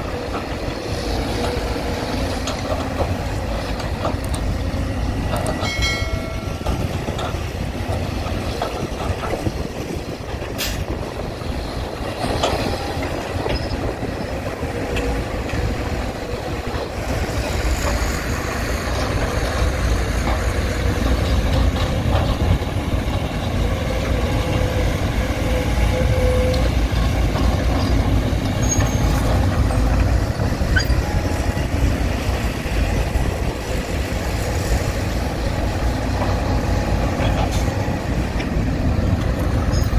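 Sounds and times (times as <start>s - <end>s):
heavy diesel machinery rumbling: 0.0s - 39.9s.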